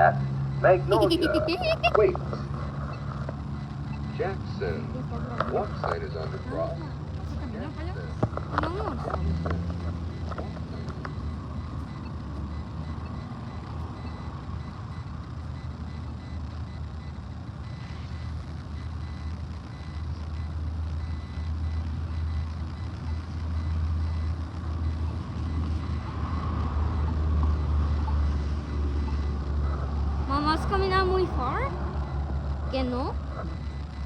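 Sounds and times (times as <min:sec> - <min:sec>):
crosswalk signal high tone: 0:00.0 - 0:34.0
road traffic rumble: 0:00.0 - 0:34.0
vehicle approaching: 0:00.0 - 0:34.0.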